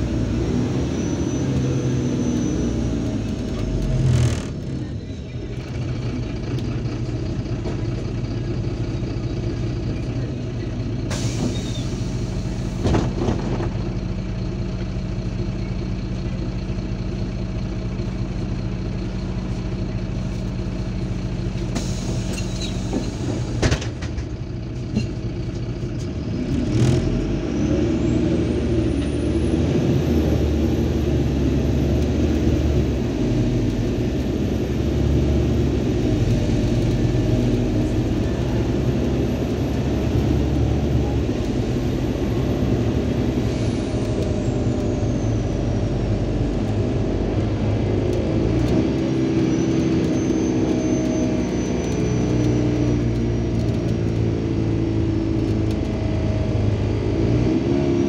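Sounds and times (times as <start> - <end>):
bus engine: 0.0 - 58.0.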